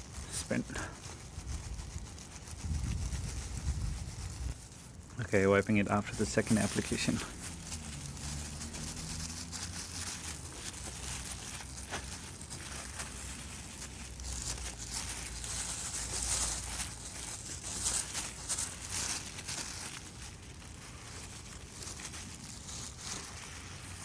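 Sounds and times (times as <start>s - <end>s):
cloth rubbing plastic lens: 0.0s - 24.0s.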